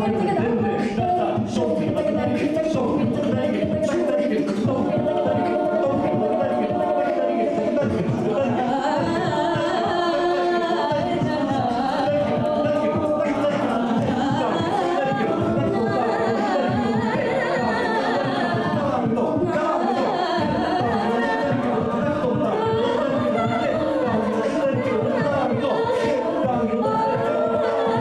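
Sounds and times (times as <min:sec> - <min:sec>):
a cappella group singing in harmony: 0:00.0 - 0:28.0.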